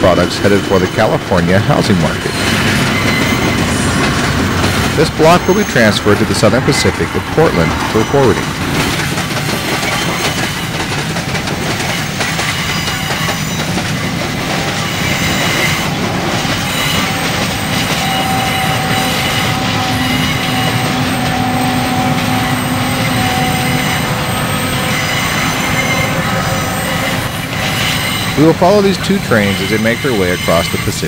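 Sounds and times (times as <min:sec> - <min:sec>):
model train wheels rattling on rails: 0:00.0 - 0:31.0.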